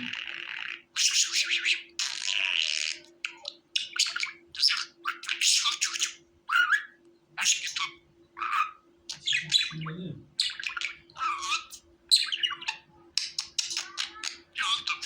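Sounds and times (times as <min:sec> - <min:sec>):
budgerigar chirping: 0:00.0 - 0:15.0
faint steady hum: 0:00.0 - 0:15.0.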